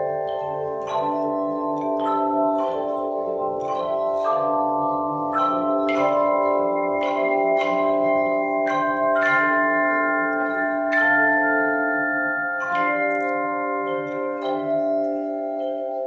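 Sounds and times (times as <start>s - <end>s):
handbell choir playing chords: 0.0s - 16.0s.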